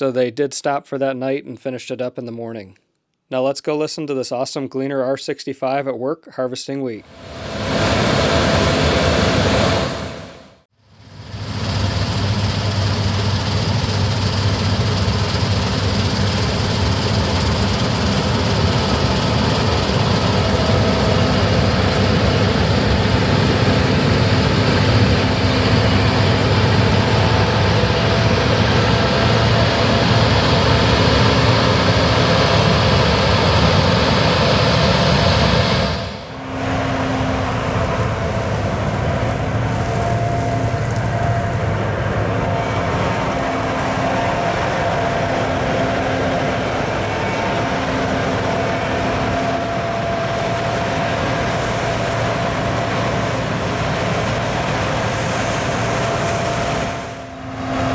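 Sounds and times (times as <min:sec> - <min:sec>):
combine harvester engine drone: 0:07.1 - 0:57.9
threshing machinery whir: 0:11.4 - 0:57.9.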